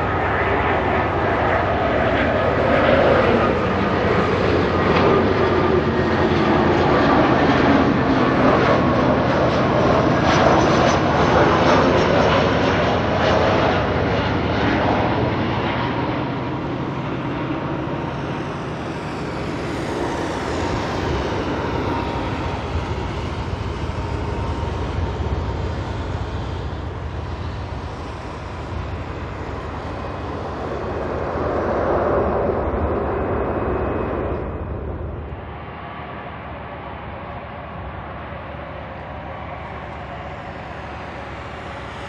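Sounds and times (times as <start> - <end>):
falling jet whine: 0.0 - 42.0
jet engine roar: 0.0 - 42.0.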